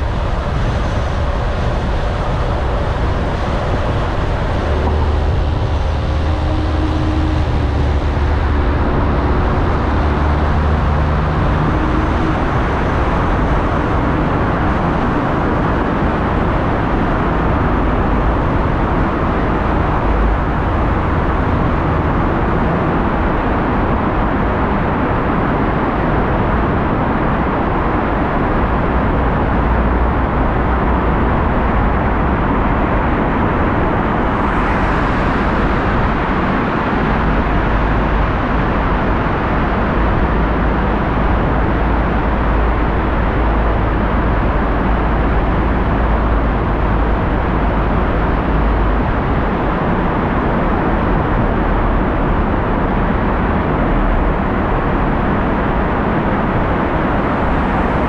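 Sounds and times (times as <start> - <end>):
low engine hum: 0.0 - 58.0
tyre and road noise: 0.0 - 58.0.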